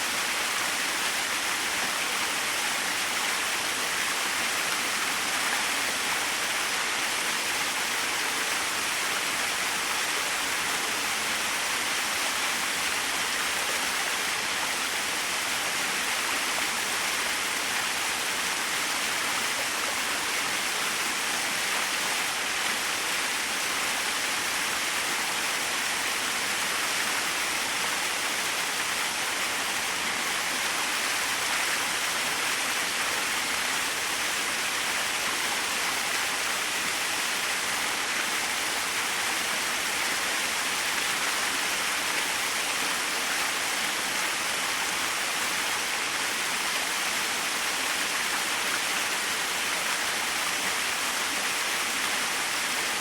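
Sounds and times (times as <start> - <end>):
small waterfall splashing: 0.0 - 53.0.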